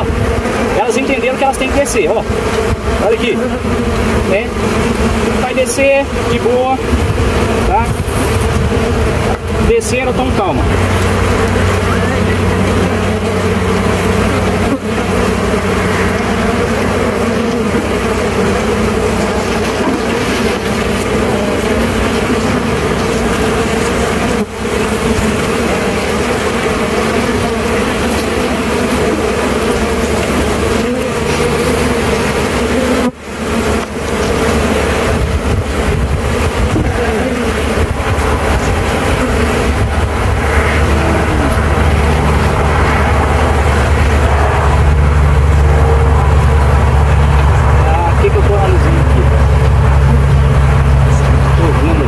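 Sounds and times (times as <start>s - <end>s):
honeybees buzzing: 0.0s - 52.0s.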